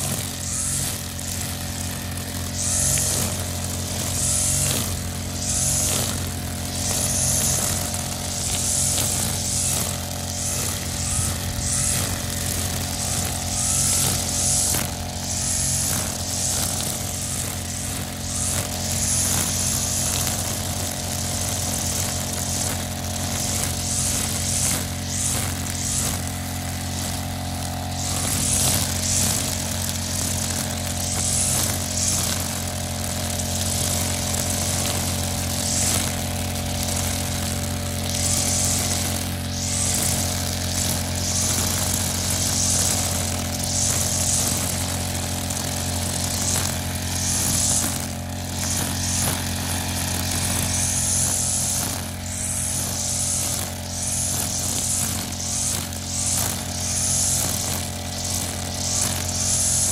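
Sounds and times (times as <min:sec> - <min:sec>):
brush cutter engine running: 0:00.0 - 0:59.9
cutting head swishing through grass: 0:04.0 - 0:59.9.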